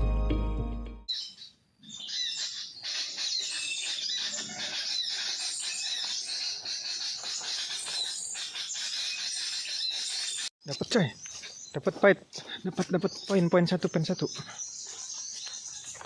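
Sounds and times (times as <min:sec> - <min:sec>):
high-pitched forest wildlife chorus: 0:01.1 - 0:16.0
small birds chirping: 0:01.1 - 0:16.0.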